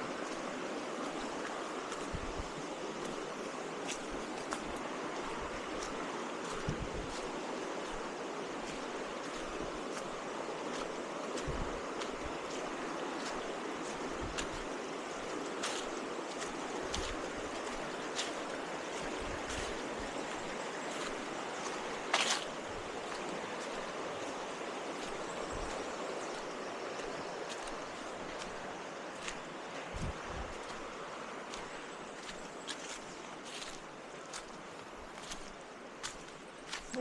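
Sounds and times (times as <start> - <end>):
waterfall and stream rushing: 0.0 - 37.0.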